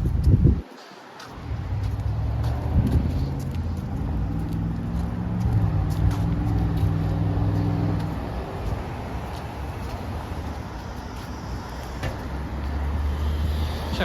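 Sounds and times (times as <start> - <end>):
engine running: 1.2 - 14.0.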